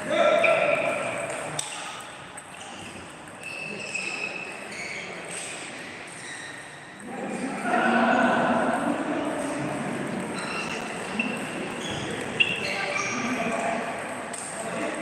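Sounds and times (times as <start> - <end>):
ping-pong balls ticking: 0.3 - 7.1, 8.6 - 15.0.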